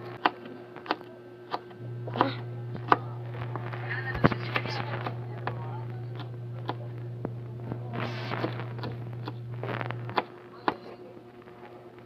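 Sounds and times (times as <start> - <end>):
low hum: 1.8 - 12.0.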